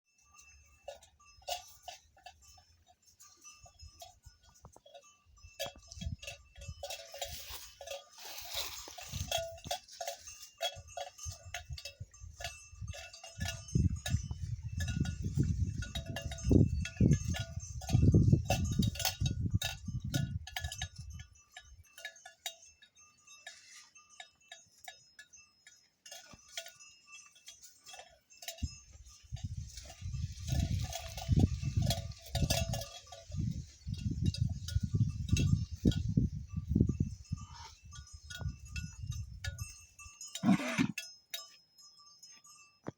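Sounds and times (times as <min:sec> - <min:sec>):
livestock bells clanking: 0:00.1 - 0:42.9.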